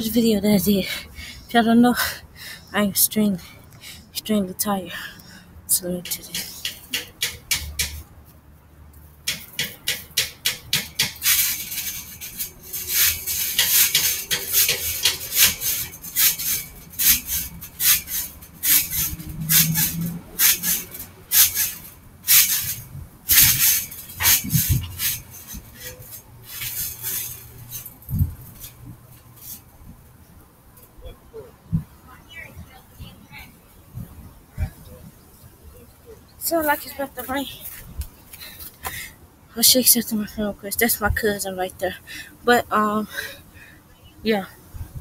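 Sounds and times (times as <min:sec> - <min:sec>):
trampoline springs creaking: 0:05.7 - 0:43.6.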